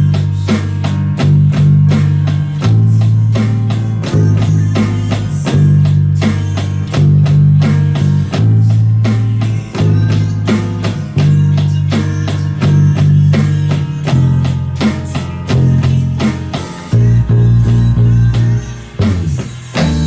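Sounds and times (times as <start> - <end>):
bass line: 0.0 - 20.0
drum kit beat: 0.0 - 20.0.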